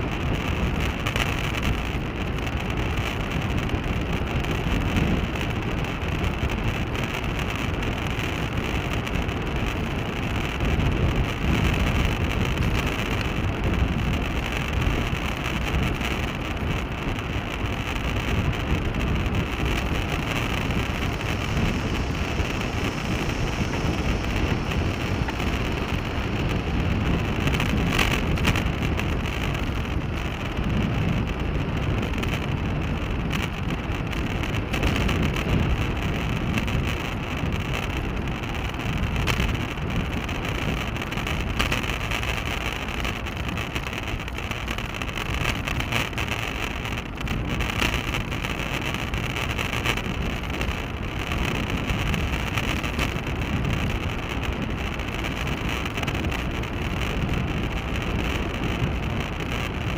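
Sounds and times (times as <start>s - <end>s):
tyre and road noise: 0.0s - 59.9s
wind rushing on microphone: 0.0s - 59.9s.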